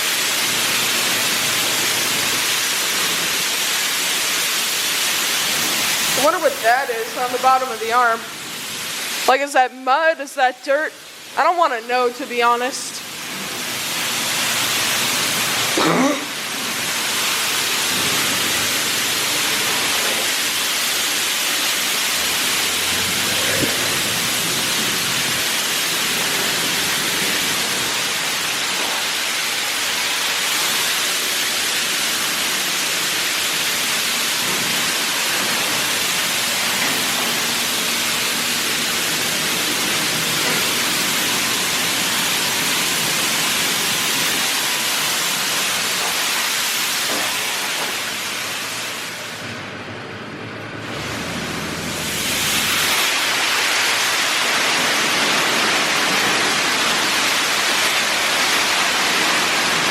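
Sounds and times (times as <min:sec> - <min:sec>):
high-pressure water spray hissing: 0:00.0 - 0:49.6, 0:50.8 - 0:59.9.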